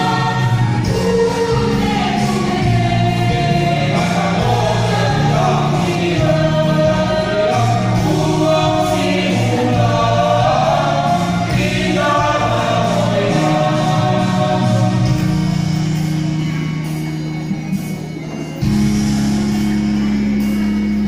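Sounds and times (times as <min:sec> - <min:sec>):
mixed choir singing: 0:00.0 - 0:20.7.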